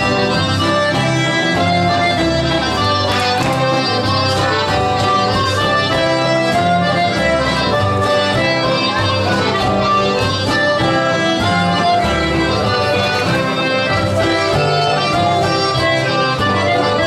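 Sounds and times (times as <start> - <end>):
folk dance music: 0.0 - 17.0.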